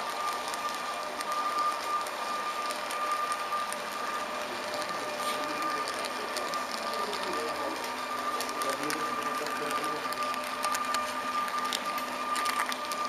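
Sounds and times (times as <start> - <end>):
model train motor whine: 0.0 - 13.0
wheels clicking over track: 0.0 - 13.0.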